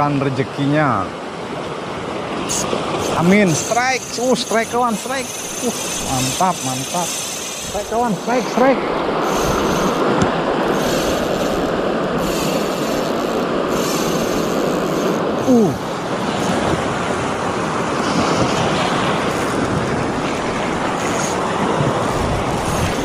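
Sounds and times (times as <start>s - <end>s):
surf washing on shore: 0.0s - 23.0s
wind on microphone: 2.5s - 23.0s.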